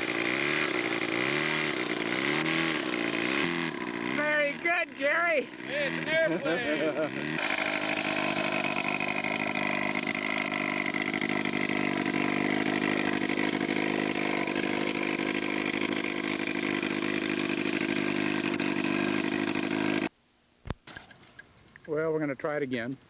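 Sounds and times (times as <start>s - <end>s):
model aircraft engine idling: 0.0s - 20.1s.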